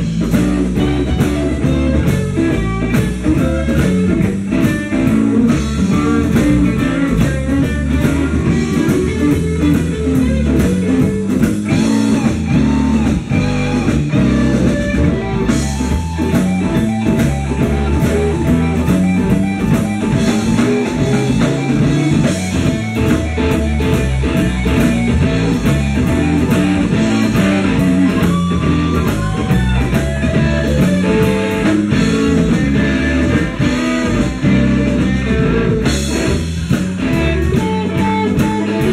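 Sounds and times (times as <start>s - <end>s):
blues guitar lines: 0.0s - 38.9s
drums steady beat: 0.0s - 38.9s.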